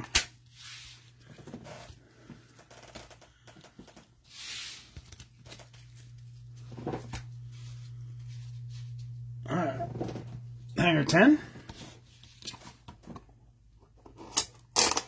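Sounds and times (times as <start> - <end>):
steady low hum: 0.1 - 14.7.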